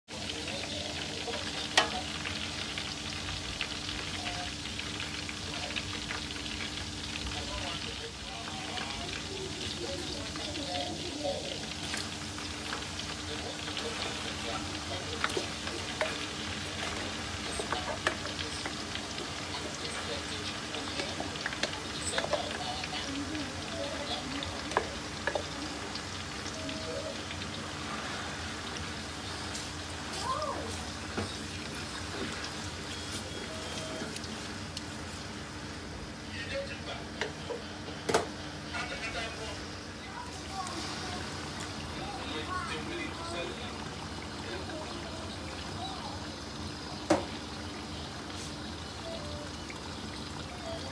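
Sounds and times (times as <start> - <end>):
onion sizzling in hot oil: 0.1 - 50.9.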